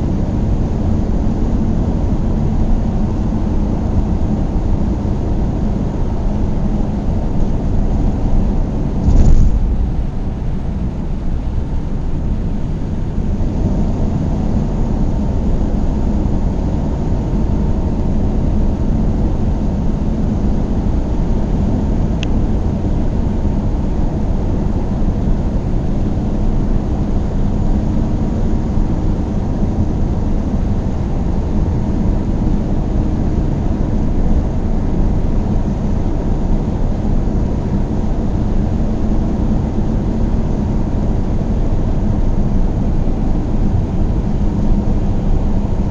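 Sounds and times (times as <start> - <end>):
car engine and road noise: 0.0 - 39.6.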